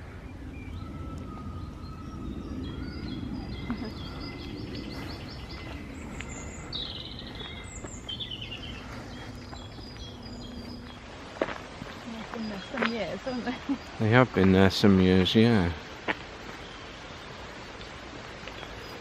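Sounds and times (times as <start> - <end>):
songbirds singing: 0.0 - 19.0
steady low rumble: 0.0 - 19.0.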